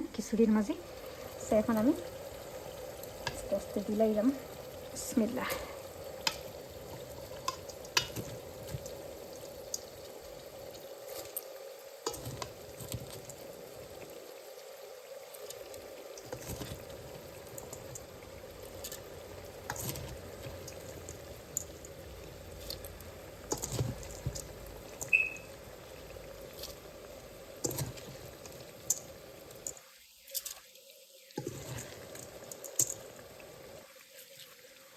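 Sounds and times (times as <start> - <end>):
low cooking hiss: 0.0 - 34.9.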